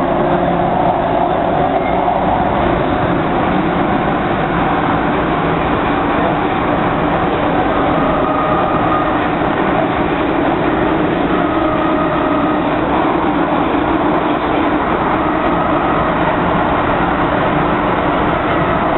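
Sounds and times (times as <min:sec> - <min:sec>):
traction motor whine: 0:00.0 - 0:18.9
train wheels rumbling: 0:00.0 - 0:18.9.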